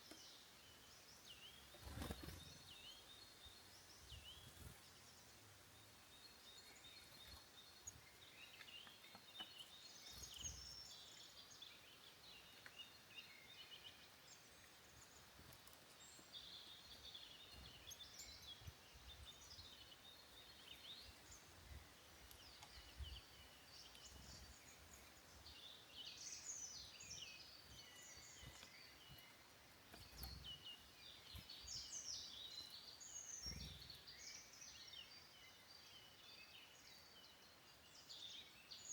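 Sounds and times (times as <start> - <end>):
faint woodland birdsong: 0.0 - 38.9.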